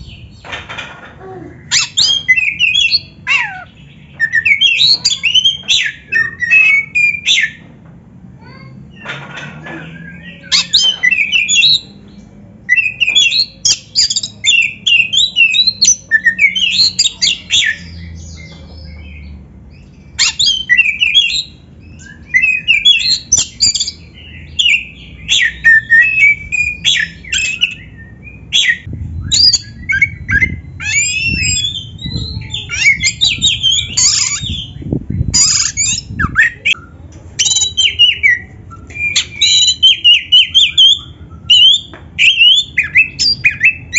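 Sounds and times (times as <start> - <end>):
bird singing whistles and chatter: 1.6 - 7.6, 8.5 - 19.4, 20.0 - 43.9.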